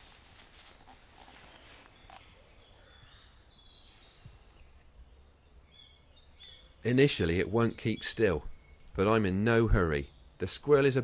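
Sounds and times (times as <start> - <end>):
faint songbird chirps: 0.0 - 11.0.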